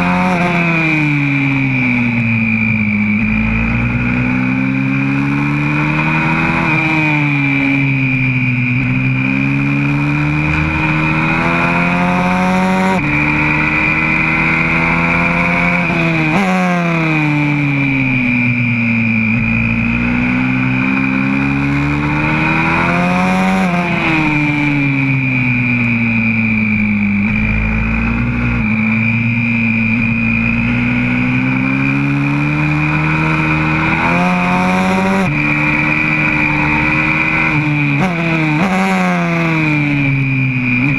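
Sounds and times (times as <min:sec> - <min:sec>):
motorbike engine revving: 0:00.0 - 0:40.9
steady high whine: 0:00.0 - 0:40.9.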